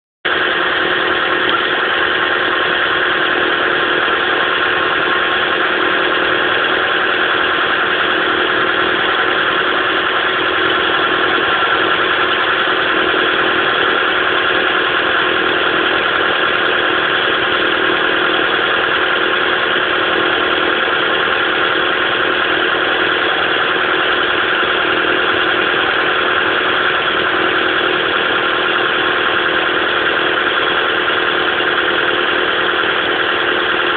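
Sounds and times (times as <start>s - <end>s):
engine idling with misfire: 0.2s - 33.9s.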